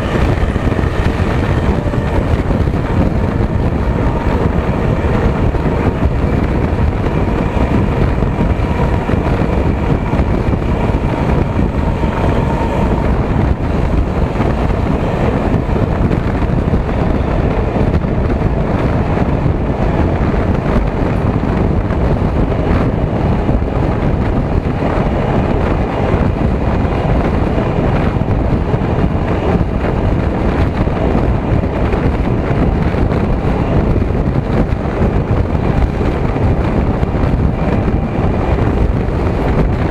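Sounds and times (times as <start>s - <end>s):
passenger train rumbling: 0.0s - 39.9s
wind on microphone: 0.0s - 39.9s.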